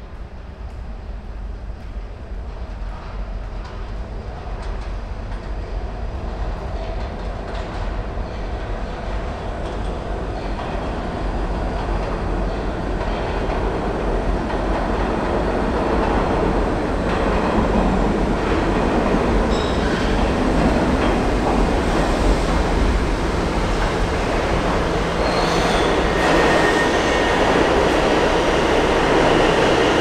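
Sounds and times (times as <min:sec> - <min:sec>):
subway train wheels on rails: 0:00.0 - 0:30.0.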